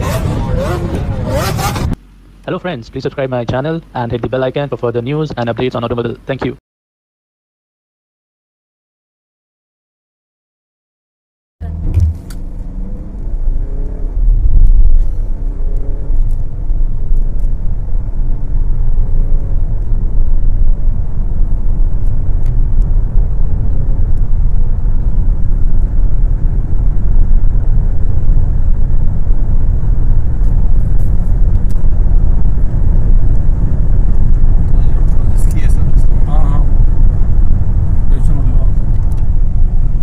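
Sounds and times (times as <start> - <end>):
car engine and road noise: 0.0 - 6.6, 11.6 - 40.0.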